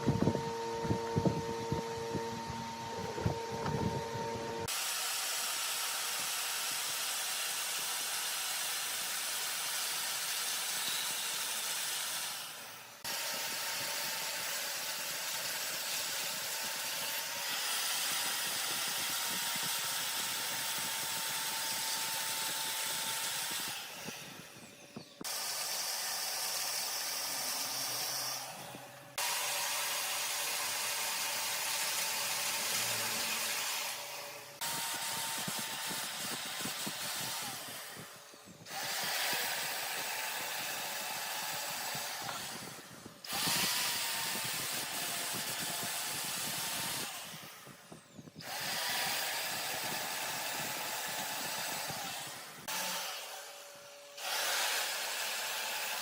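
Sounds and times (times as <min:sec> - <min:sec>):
lathe cutting tool rasping wood: 0:04.6 - 0:47.4, 0:48.4 - 0:56.0.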